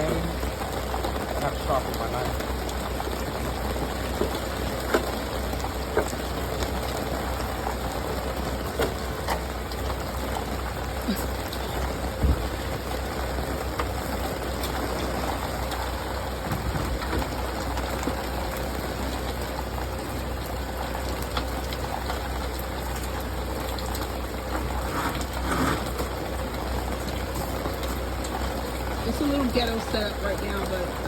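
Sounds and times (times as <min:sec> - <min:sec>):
steady rain: 0:00.0 - 0:31.0
water dripping off an awning: 0:00.0 - 0:31.0.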